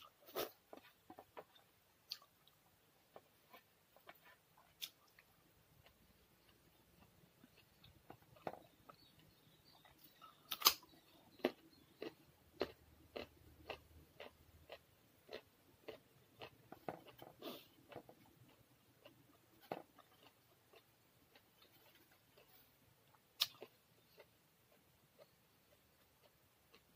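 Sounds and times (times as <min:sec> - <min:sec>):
chewing with smacks and clicks: 0:00.3 - 0:26.9.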